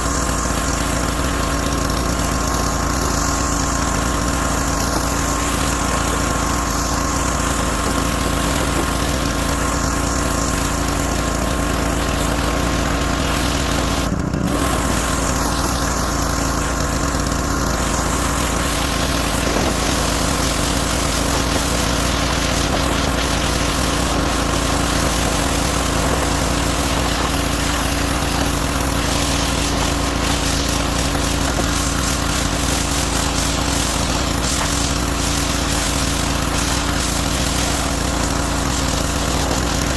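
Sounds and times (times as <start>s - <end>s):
pressure washer engine running: 0.0s - 39.9s
water spray hissing: 0.0s - 39.9s.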